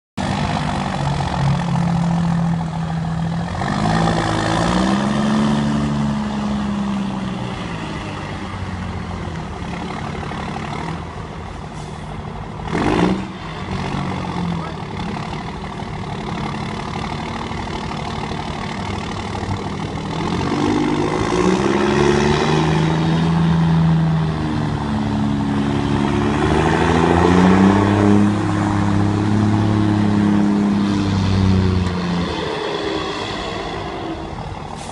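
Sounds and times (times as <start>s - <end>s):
truck diesel engine revving: 0.2s - 34.9s.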